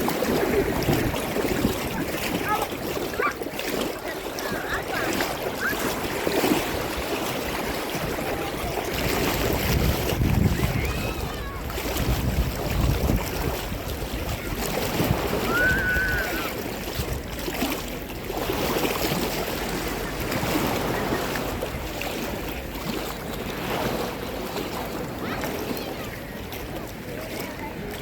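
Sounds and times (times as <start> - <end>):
sea water lapping at shore: 0.0 - 28.0
wind buffeting microphone: 0.0 - 28.0.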